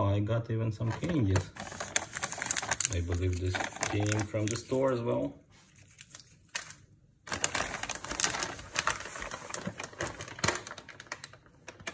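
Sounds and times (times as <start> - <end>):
wrapping paper rustling: 0.8 - 11.9.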